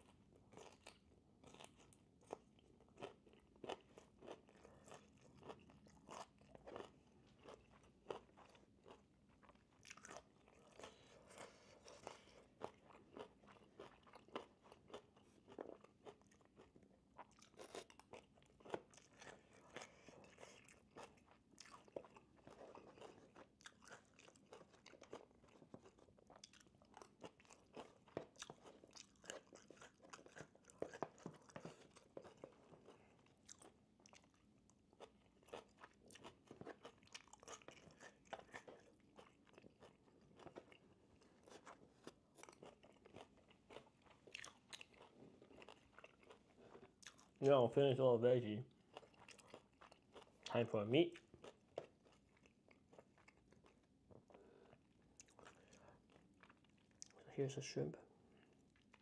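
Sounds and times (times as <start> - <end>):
person chewing crunchy food: 0.0 - 47.5, 48.7 - 57.3, 58.2 - 59.0.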